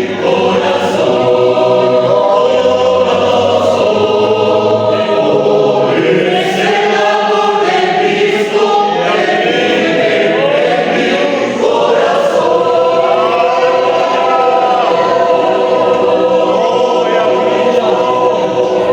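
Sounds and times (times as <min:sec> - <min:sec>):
choir singing: 0:00.0 - 0:18.9.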